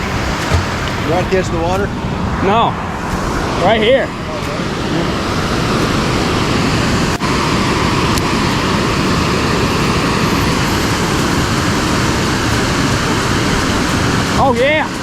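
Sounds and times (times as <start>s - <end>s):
water rushing through spillway: 0.0s - 15.0s.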